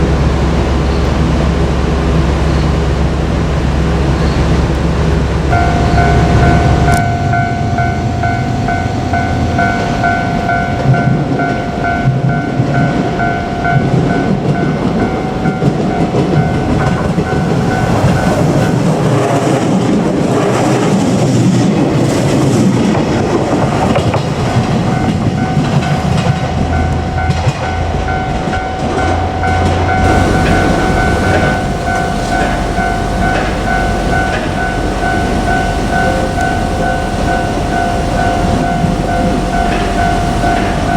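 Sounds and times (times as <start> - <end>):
level crossing warning bell: 3.6 - 21.0, 22.5 - 40.9
train wheels clacking over rail joints: 5.5 - 40.9.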